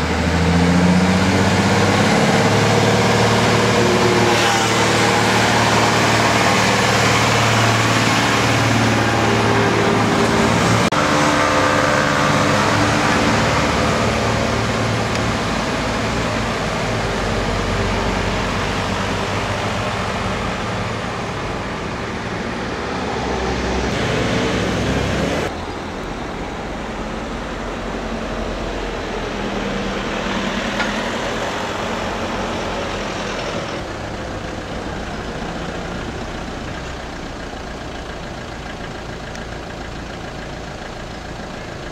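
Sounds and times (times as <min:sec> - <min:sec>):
cars and scooters passing: 0:00.0 - 0:37.4
lorry diesel engine at low speed: 0:00.0 - 0:41.9.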